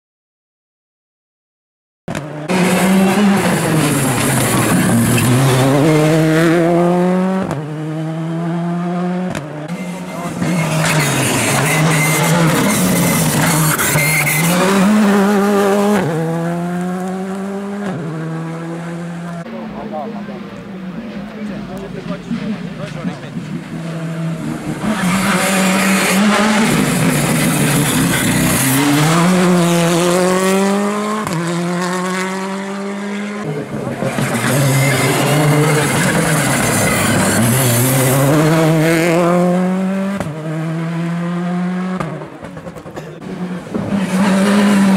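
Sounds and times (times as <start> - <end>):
rally car engine accelerating: 2.1 - 44.9.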